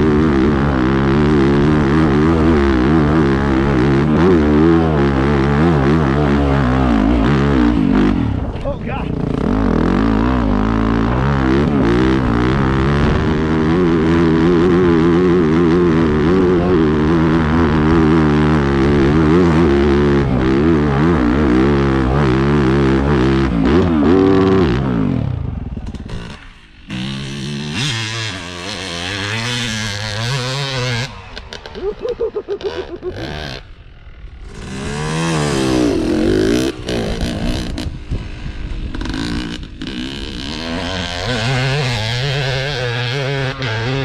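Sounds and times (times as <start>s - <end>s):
dirt bike engine revving: 0.0s - 44.0s
quieter engine: 0.0s - 44.0s.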